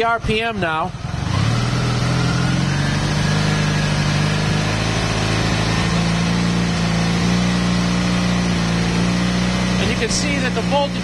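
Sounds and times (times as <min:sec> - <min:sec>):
motorcycle engine running at raised revs: 0:00.0 - 0:11.0.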